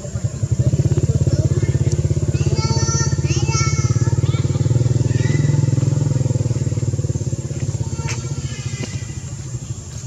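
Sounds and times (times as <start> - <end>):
motorbike engine running: 0.0 - 10.0.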